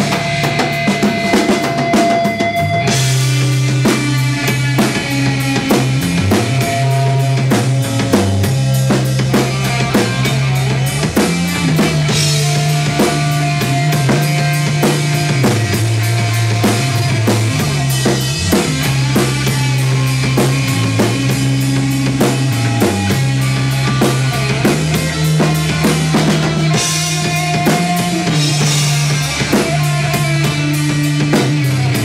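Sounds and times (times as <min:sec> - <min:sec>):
drum kit steady beat: 0:00.0 - 0:32.0
electric guitars sustained notes: 0:00.0 - 0:32.0.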